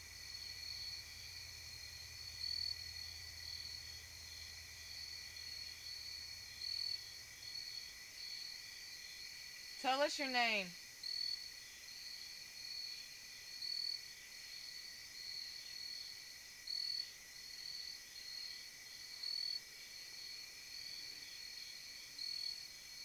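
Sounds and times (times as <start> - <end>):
crickets and insects chirping: 0.0 - 23.0.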